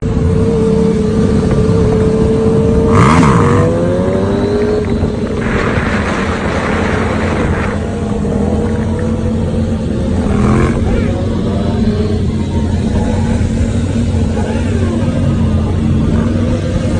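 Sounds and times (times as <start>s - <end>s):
vehicle engines running: 0.0s - 16.9s.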